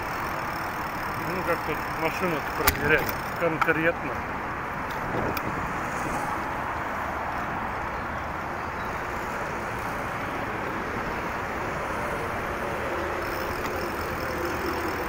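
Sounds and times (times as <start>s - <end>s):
low engine drone: 0.0s - 5.7s, 8.6s - 15.0s
busy road traffic: 0.0s - 15.0s.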